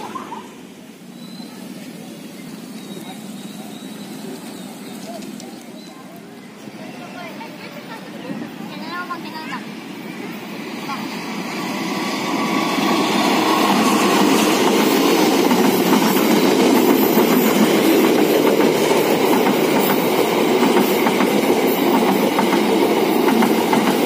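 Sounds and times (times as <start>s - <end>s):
rumble of wheels on rail: 0.0s - 24.0s.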